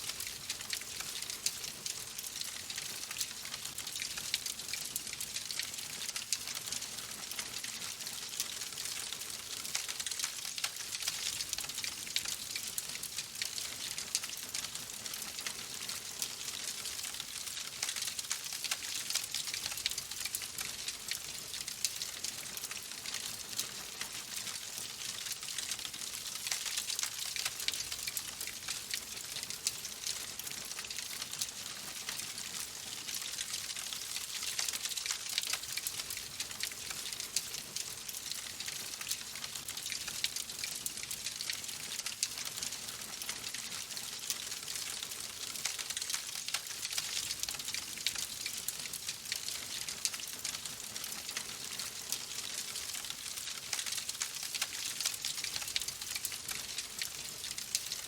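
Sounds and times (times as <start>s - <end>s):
fireplace fire crackling: 0.1s - 58.0s.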